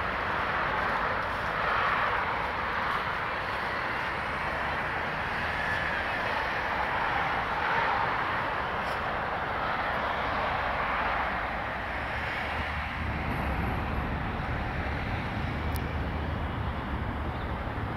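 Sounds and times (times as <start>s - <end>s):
tyre hiss from passing cars: 0.0s - 17.9s.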